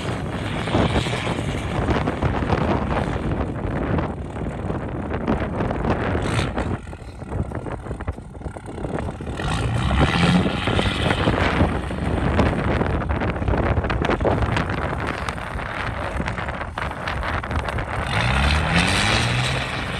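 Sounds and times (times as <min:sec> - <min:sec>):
diesel truck engine revving: 0:00.0 - 0:19.9
wind buffeting microphone: 0:00.0 - 0:19.9.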